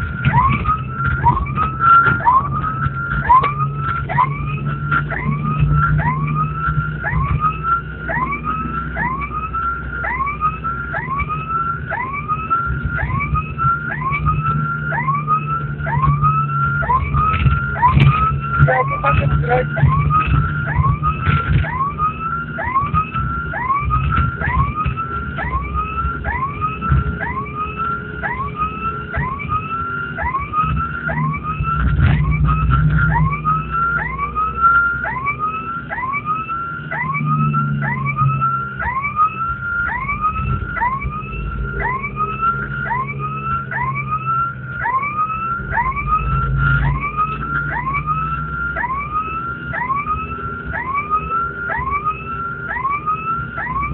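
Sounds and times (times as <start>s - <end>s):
engine and road rumble: 0.0s - 53.9s
police siren whooping: 0.0s - 53.9s.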